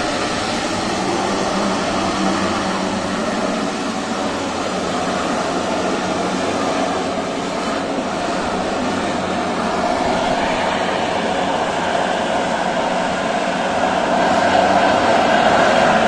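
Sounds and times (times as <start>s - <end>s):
turboprop engines droning: 0.0s - 16.0s.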